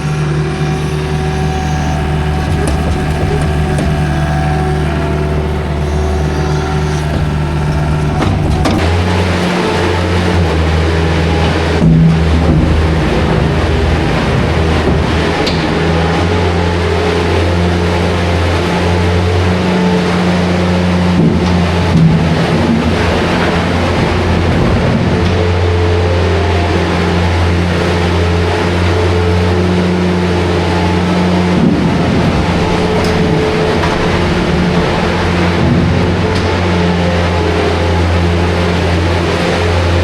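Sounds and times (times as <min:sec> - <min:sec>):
farm machine engine running: 0:00.0 - 0:40.0.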